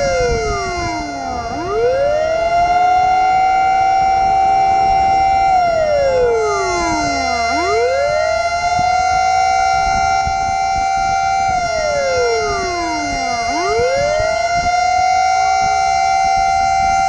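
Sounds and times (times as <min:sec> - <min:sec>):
fire truck siren wailing: 0:00.0 - 0:17.0
steady tone: 0:00.0 - 0:17.0.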